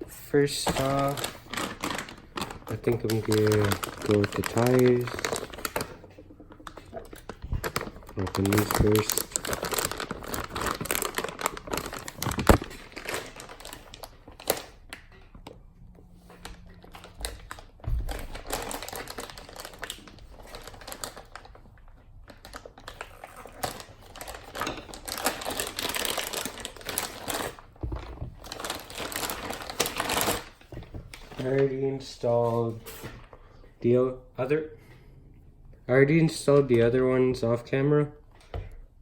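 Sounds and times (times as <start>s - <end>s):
plastic packaging crinkling: 0.3s - 15.1s, 16.4s - 33.2s.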